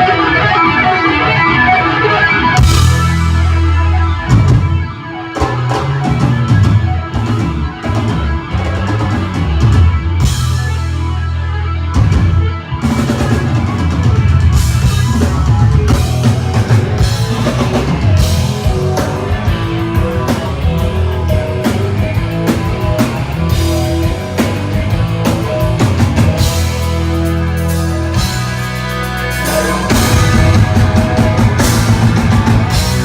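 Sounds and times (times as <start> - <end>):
bass guitar: 0.0 - 33.0
electric guitar: 0.0 - 33.0
drum kit steady beat: 2.6 - 11.1, 12.0 - 33.0.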